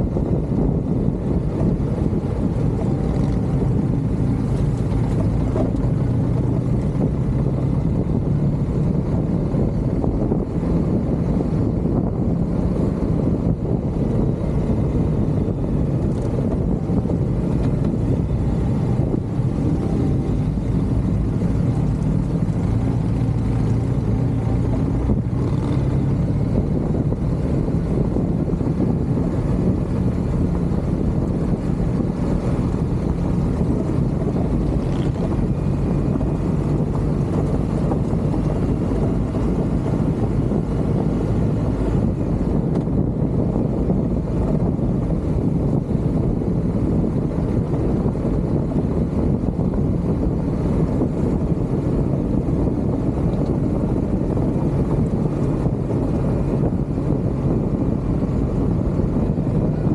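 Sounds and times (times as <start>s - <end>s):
road noise: 0.0s - 59.9s
vehicle engine drone: 0.0s - 59.9s
wind on microphone: 0.0s - 59.9s.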